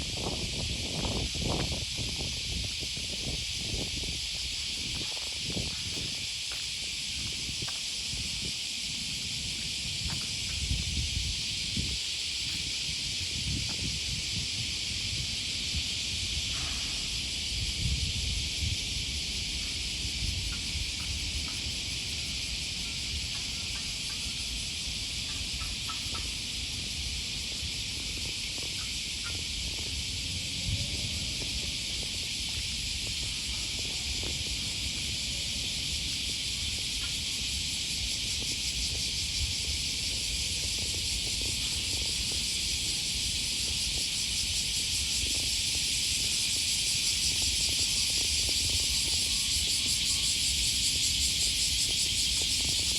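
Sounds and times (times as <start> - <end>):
cicadas singing: 0.0 - 52.9.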